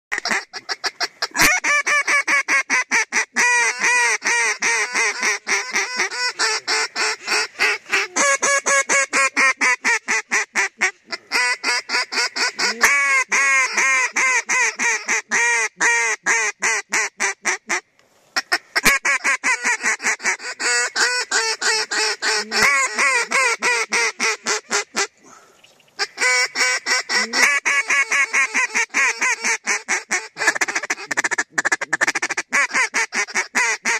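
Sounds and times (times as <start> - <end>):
waterfowl quacking and honking: 0.1 - 17.8, 18.4 - 33.9.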